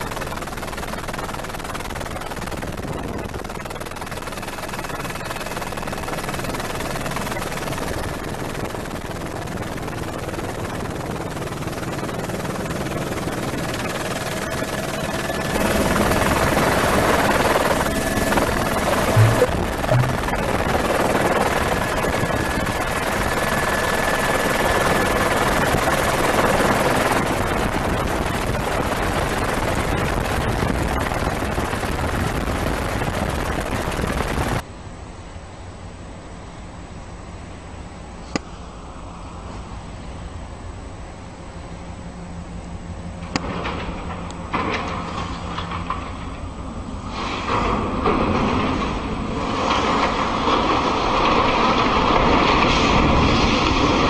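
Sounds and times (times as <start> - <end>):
helicopter rotor and engine: 0.0 - 34.7, 37.8 - 54.0
faint steady whine: 0.0 - 47.2.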